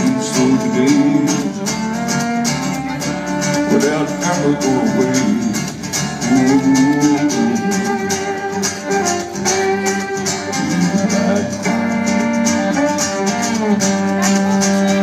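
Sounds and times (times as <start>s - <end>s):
acoustic guitar strumming: 0.0s - 15.0s
fiddle playing sliding notes: 0.0s - 15.0s.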